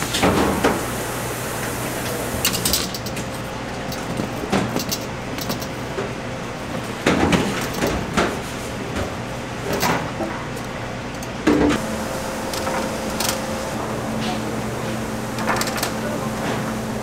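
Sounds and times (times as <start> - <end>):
kitchen machinery hum: 0.0 - 17.0.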